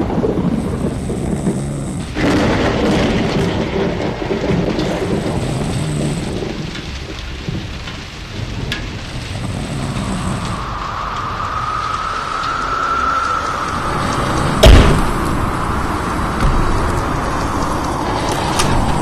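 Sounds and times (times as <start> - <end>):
low rolling thunder: 0.0 - 19.0
steady rain: 0.0 - 19.0.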